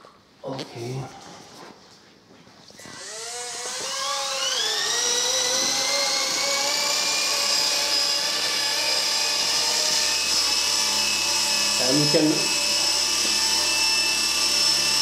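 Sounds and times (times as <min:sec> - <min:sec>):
rc helicopter motor whine: 0:02.9 - 0:15.0.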